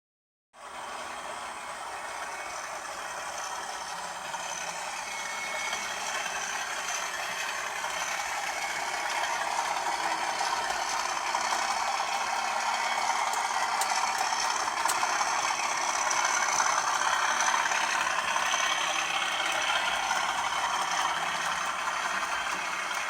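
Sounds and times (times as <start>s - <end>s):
diesel locomotive engine running: 0.6s - 23.0s
turbocharger whistle: 2.0s - 23.0s.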